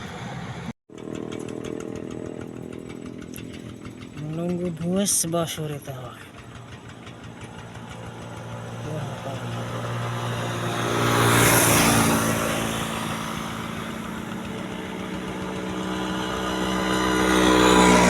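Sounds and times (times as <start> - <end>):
steady engine hum: 0.0 - 18.0
vehicles passing close by: 0.0 - 18.0.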